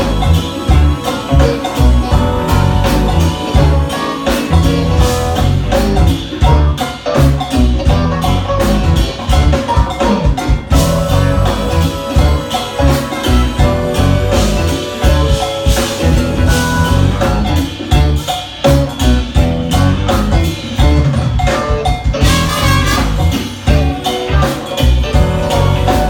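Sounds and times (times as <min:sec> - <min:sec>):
drum kit hits: 0:00.0 - 0:26.0
heavy pulsing bass line: 0:00.0 - 0:26.0
sustained keyboard notes: 0:00.0 - 0:26.0.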